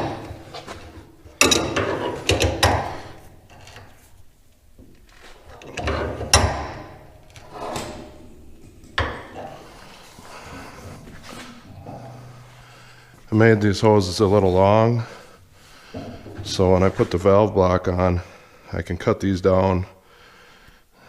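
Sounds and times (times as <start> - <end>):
hydraulic hoses clattering: 0.0 - 17.9.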